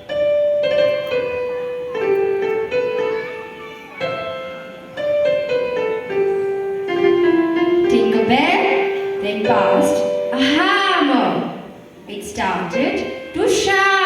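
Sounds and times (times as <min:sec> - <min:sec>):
slow gentle piano melody: 0:00.0 - 0:13.7.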